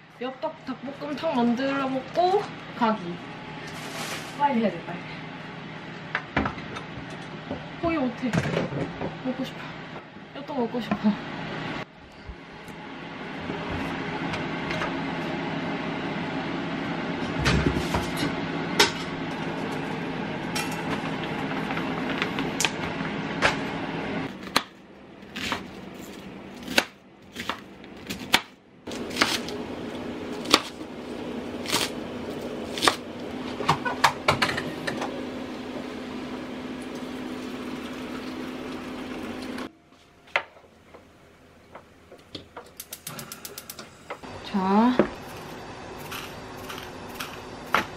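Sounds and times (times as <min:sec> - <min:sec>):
microwave oven humming: 0:00.0 - 0:47.9.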